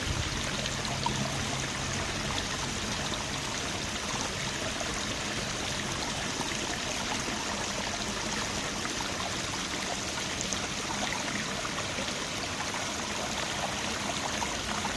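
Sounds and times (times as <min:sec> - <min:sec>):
creek water trickling over stones: 0:00.0 - 0:14.9.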